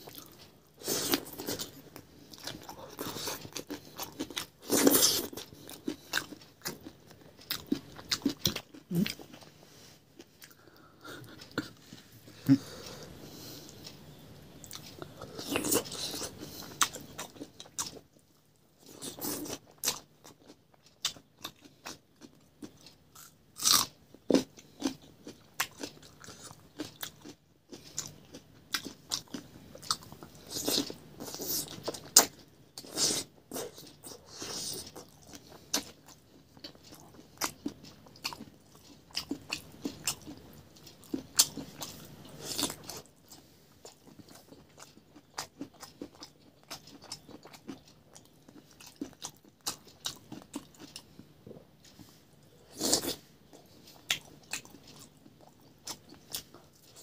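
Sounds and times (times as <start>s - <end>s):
person chewing and crunching: 0.0s - 57.0s.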